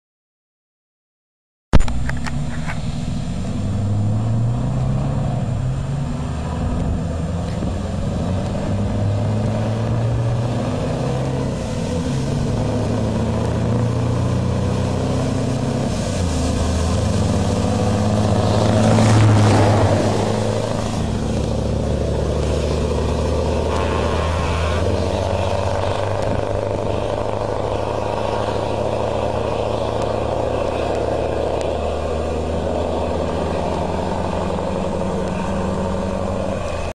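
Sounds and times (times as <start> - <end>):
vehicle engine and road noise: 1.7 - 36.9
trucks passing close by: 1.8 - 36.9.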